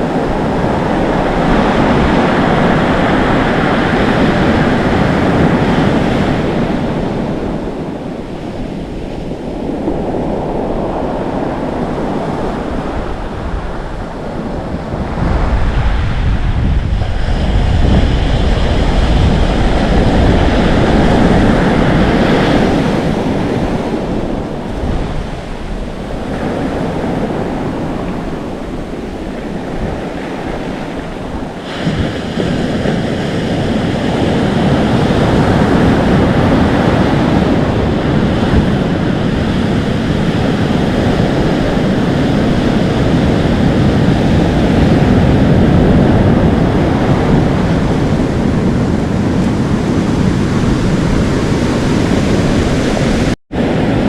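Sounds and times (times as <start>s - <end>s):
waves breaking on shore: 0.0s - 54.0s
wind buffeting microphone: 0.0s - 54.0s.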